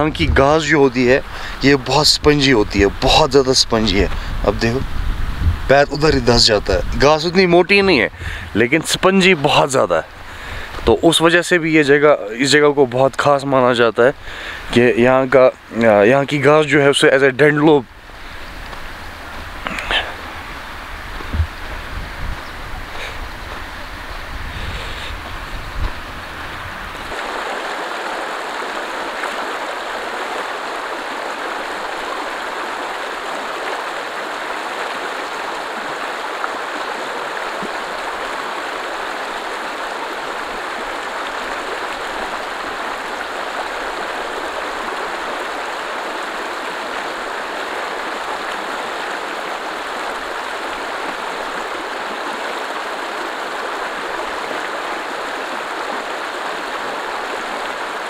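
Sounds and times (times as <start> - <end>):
river rushing over stones: 0.0 - 58.0.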